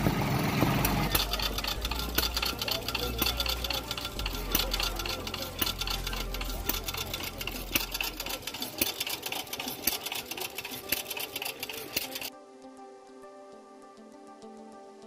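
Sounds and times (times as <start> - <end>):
small gas engine clattering: 0.0 - 12.3.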